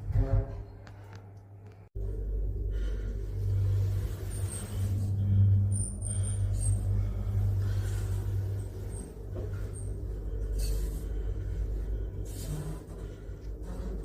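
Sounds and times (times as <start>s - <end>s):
lift machinery humming: 2.0s - 14.0s.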